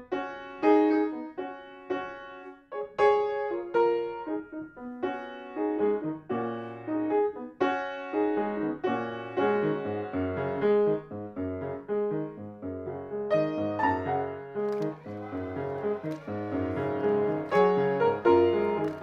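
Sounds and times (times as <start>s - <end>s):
solo piano playing: 0.0s - 19.0s.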